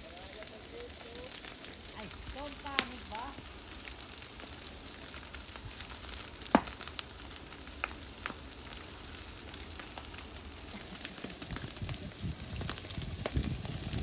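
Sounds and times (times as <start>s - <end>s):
fire crackling hiss: 0.0s - 14.0s
sharp pops of fire: 0.0s - 14.0s.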